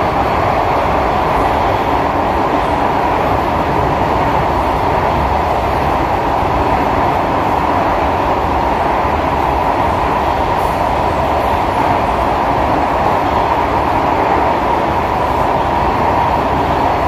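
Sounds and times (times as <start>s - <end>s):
constant train cabin hum: 0.0s - 17.0s
train wheels rumbling on rail: 0.0s - 17.0s.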